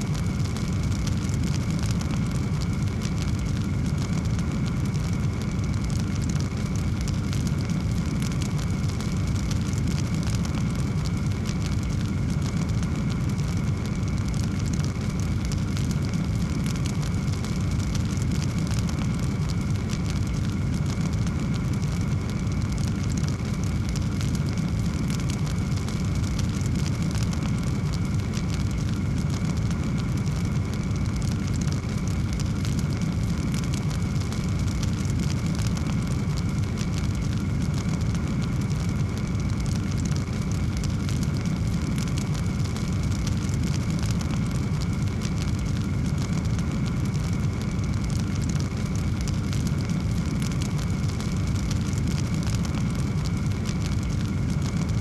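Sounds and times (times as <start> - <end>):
fire crackles and pops: 0.0 - 55.0
wood fire burning: 0.0 - 55.0.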